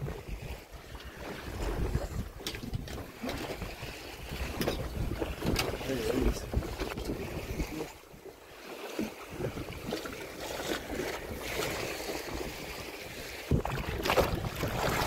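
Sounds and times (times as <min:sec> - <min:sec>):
wind gusting over microphone: 0:00.0 - 0:08.0, 0:09.3 - 0:15.0
water lapping against boat: 0:00.0 - 0:15.0.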